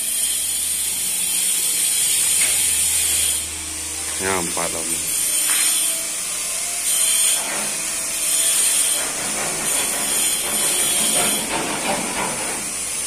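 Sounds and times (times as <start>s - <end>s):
hand tool scraping: 1.5s - 13.0s.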